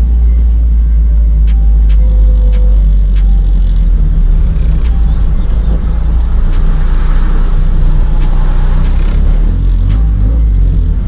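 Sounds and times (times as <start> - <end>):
background music with even beat: 0.0 - 11.0
car engine running: 0.0 - 11.0.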